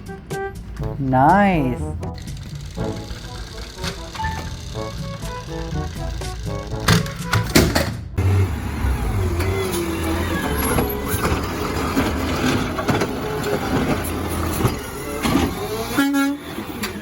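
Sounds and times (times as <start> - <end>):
heavy vehicle engine rumble: 0.0 - 17.0
music: 0.0 - 17.0.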